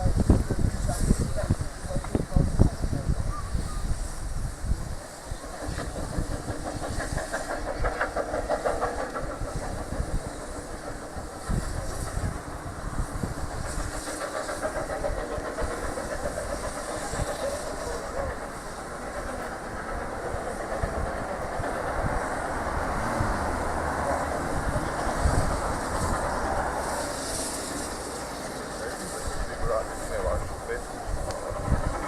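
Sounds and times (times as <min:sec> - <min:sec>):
carriage rumble and hiss: 0:00.0 - 0:32.0.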